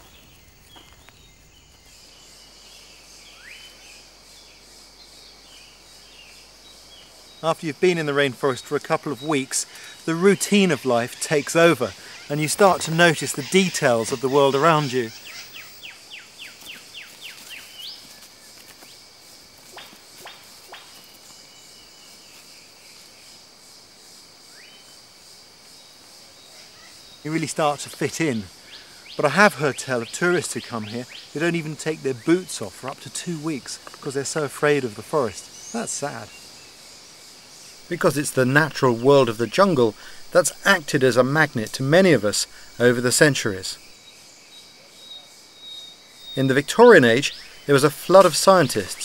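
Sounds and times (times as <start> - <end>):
birds calling: 0.0 - 19.0, 26.4 - 49.0
high insect chorus: 0.0 - 49.0.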